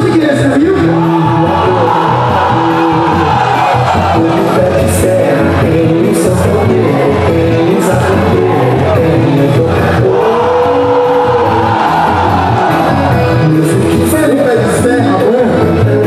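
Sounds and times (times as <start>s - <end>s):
loud music with singing: 0.0s - 16.0s.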